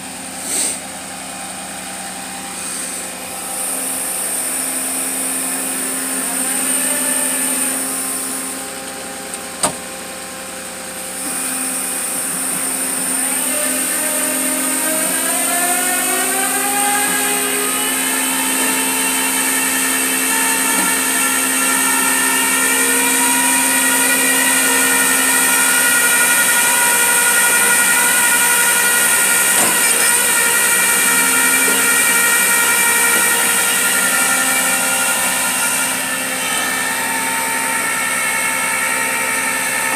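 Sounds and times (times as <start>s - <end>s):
winch motor whine: 0.0s - 39.9s.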